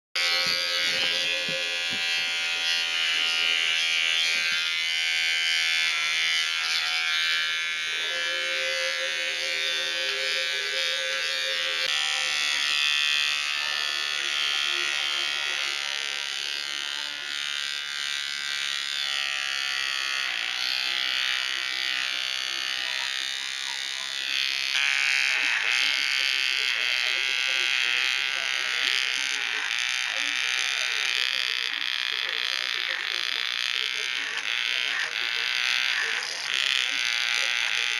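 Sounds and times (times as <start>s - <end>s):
electric pet clipper buzzing: 0.2s - 37.9s.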